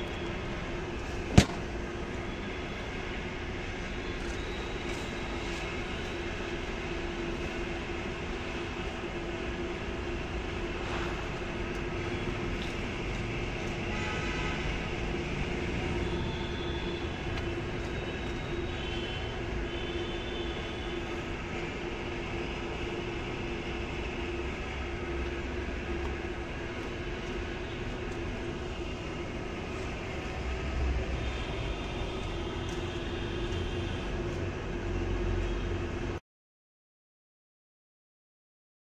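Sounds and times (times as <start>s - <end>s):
constant droning hum: 0.0s - 36.2s
mechanical rumble and hiss: 0.0s - 36.2s.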